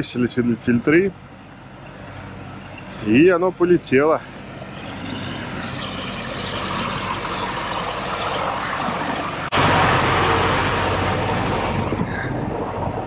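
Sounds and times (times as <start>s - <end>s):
tractor diesel engine passing: 0.0s - 13.0s.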